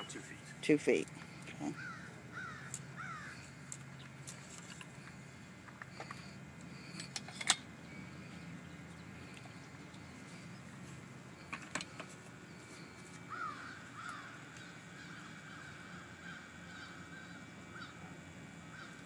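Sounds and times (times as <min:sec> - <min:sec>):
bird calling: 0:00.0 - 0:07.1, 0:07.7 - 0:19.0.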